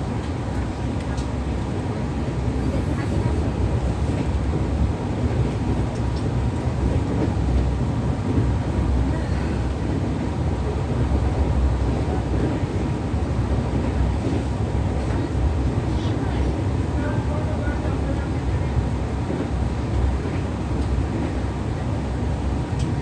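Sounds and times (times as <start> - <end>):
train running at speed: 0.0 - 23.0.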